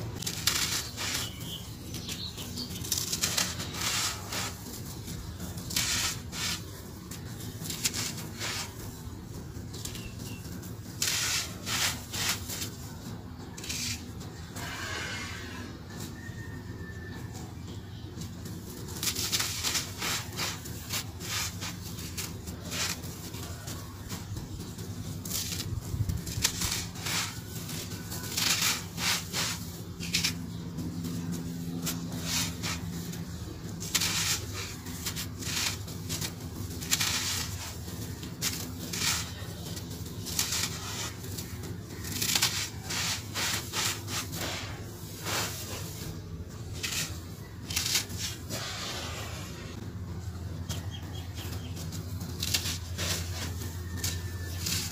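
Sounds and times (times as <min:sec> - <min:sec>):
gritty crunching of dry mix: 0:00.0 - 0:54.9.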